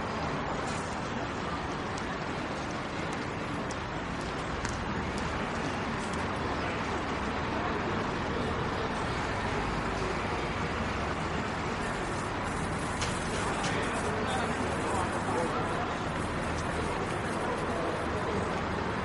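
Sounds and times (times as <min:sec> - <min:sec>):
indistinct crowd voices: 0:00.0 - 0:19.0.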